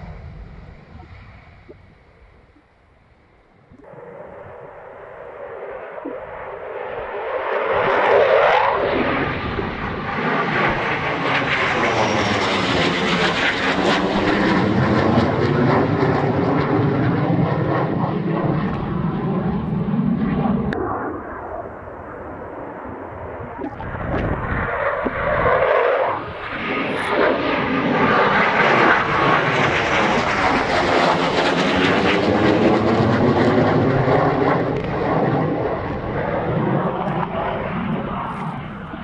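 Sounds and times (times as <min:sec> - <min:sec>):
jet fighter passing overhead: 0:00.0 - 0:39.0.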